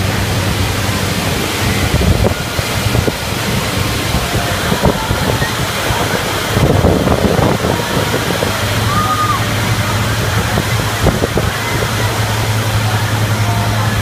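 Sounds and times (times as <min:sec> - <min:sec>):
low blower hum: 0:00.0 - 0:14.0.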